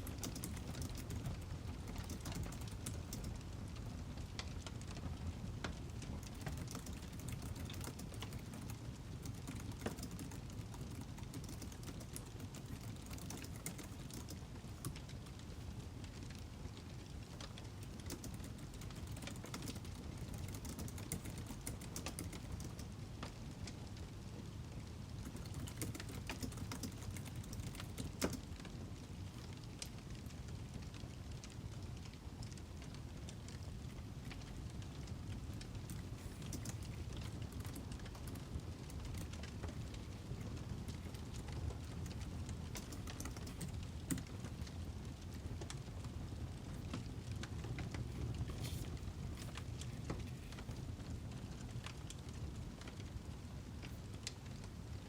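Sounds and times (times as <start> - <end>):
low steady rumble: 0.0 - 55.0
wood fire crackling: 0.0 - 55.0.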